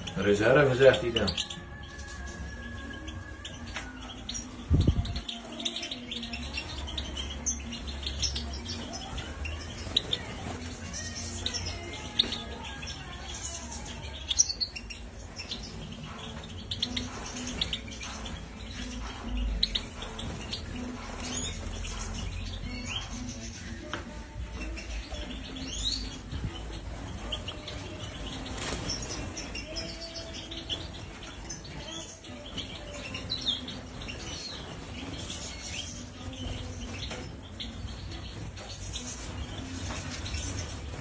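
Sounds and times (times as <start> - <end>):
small cage birds chirping: 0.0 - 41.0.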